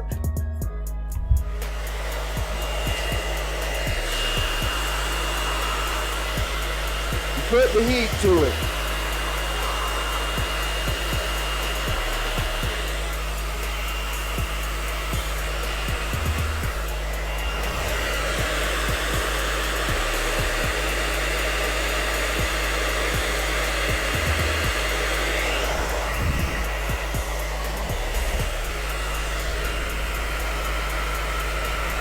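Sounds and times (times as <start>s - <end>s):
hair dryer running: 1.1s - 32.0s.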